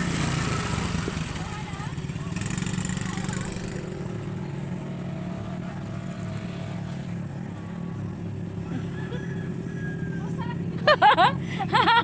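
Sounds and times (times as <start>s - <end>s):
atv engine running steadily: 0.0s - 12.0s.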